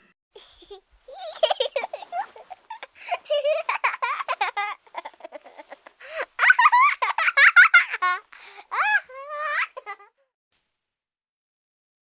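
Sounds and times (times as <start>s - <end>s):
child giggling and laughing: 0.4s - 10.3s.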